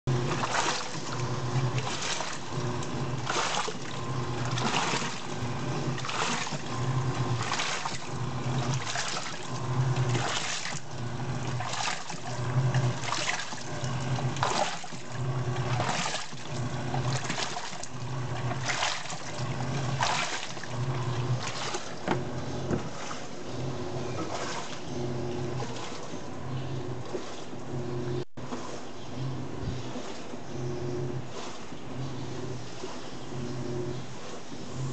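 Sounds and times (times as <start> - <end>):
washing machine motor humming: 0.0 - 34.9
water sloshing in tub: 0.1 - 34.9.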